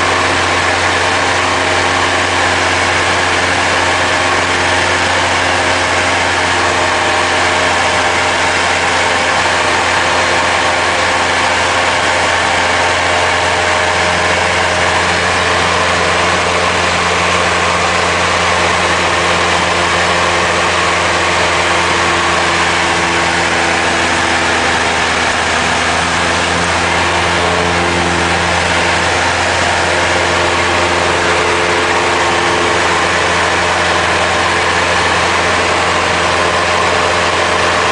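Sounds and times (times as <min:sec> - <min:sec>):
light aircraft engine drone: 0:00.0 - 0:37.9.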